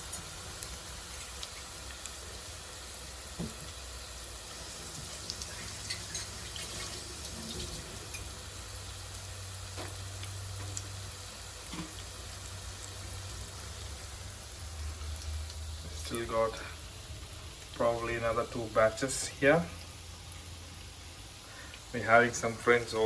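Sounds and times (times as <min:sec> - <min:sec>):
chicken deep frying in oil: 0:00.0 - 0:23.0.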